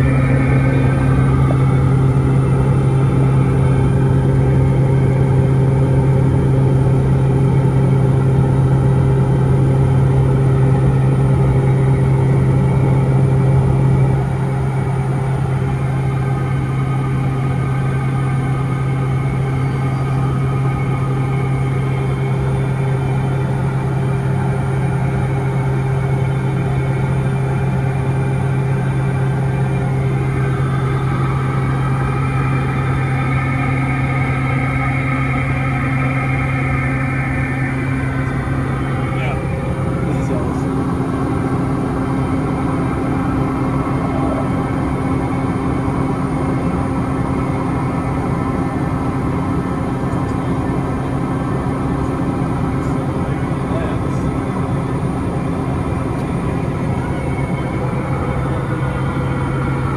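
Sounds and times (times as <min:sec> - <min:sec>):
turboprop engine drone: 0:00.0 - 0:59.9.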